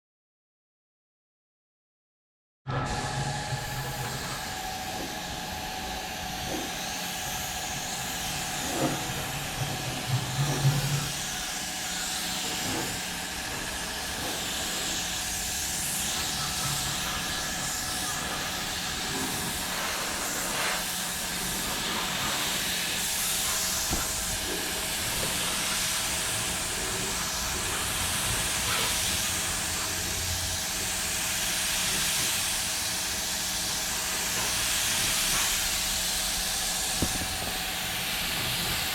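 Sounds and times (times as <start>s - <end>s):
spray gun hissing: 4.9s - 38.9s.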